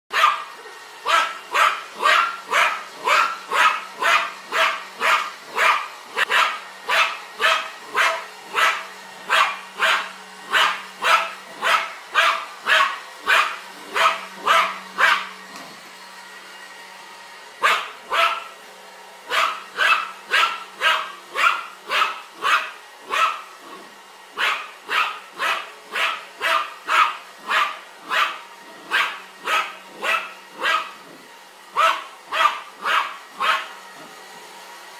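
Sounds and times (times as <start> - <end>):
dog barking: 0.1 - 15.3, 17.6 - 18.5, 19.3 - 31.0, 31.8 - 33.7.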